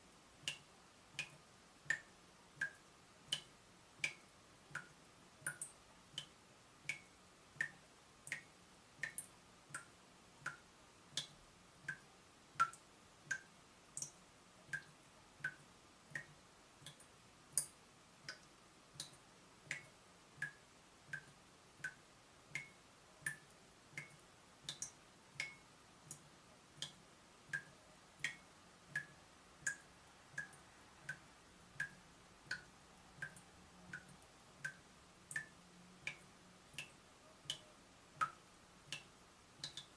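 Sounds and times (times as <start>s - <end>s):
water dripping from tap: 0.4s - 37.6s, 38.2s - 39.9s.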